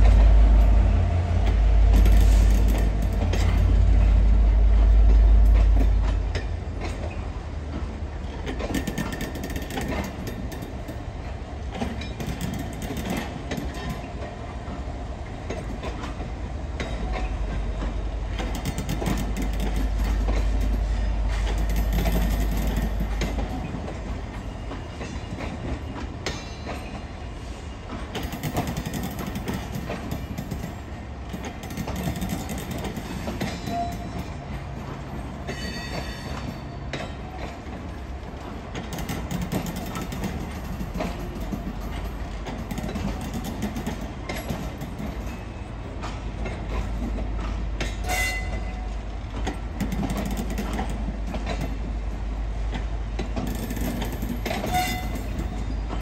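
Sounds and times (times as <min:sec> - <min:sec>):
train wheels clicking over rail joints: 0:00.0 - 0:56.0.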